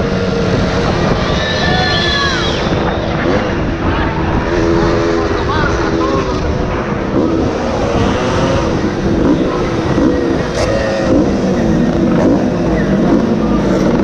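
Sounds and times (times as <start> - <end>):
wind rushing: 0.0 - 13.4
racing motorcycle engine revving: 0.0 - 14.0.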